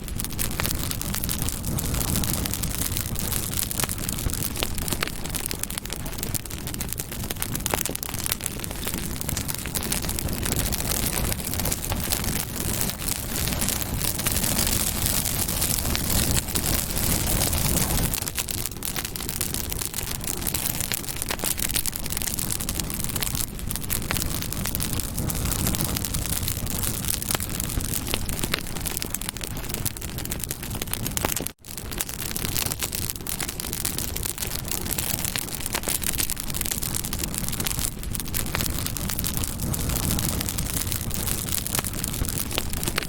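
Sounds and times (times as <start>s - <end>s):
fire crackling and popping: 0.0s - 43.0s
flames rushing: 0.0s - 43.0s.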